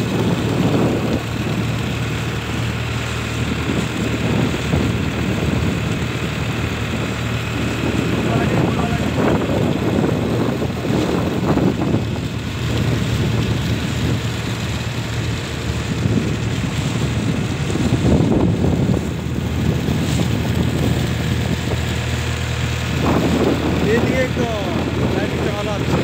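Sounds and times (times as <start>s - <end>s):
motorboat engine humming: 0.0s - 26.0s
water splashing along hull: 0.0s - 26.0s
wind buffeting microphone: 0.0s - 26.0s.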